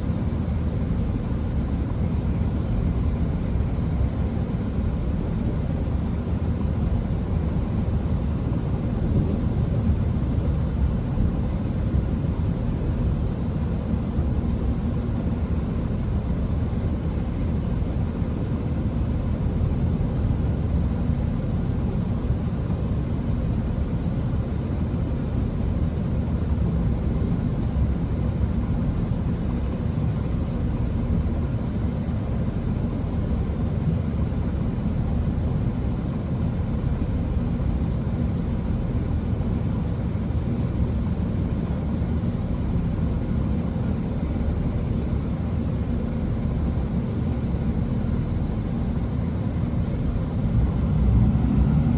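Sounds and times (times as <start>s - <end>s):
train rumbling at speed: 0.0s - 25.8s, 26.4s - 51.9s.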